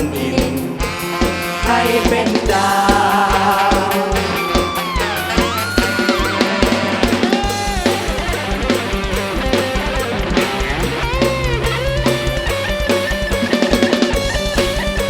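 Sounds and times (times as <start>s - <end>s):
drum kit beat: 0.0s - 15.0s
guitar: 0.0s - 15.0s
lead melody with sliding notes: 0.0s - 15.0s.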